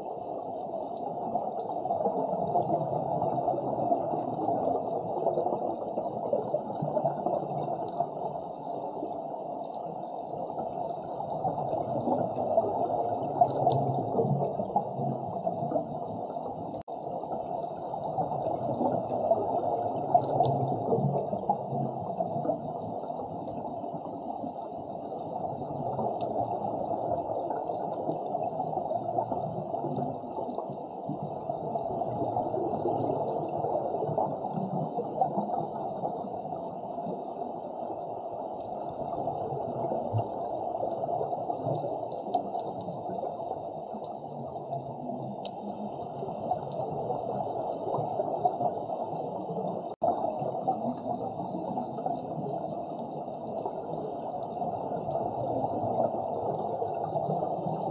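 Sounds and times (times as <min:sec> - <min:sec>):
gurgling regulator exhaust bubbles: 0:00.0 - 0:57.9
muffled underwater rush: 0:00.0 - 0:57.9.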